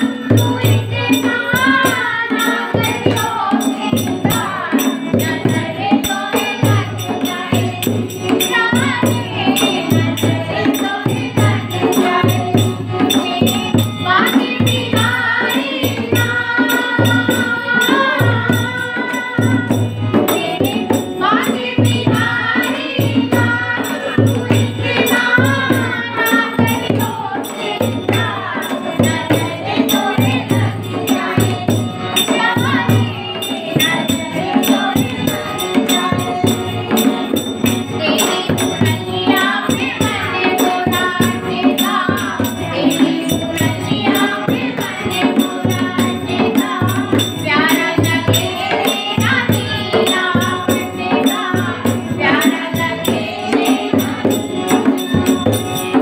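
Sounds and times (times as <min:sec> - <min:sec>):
women singing together: 0:00.0 - 0:56.0.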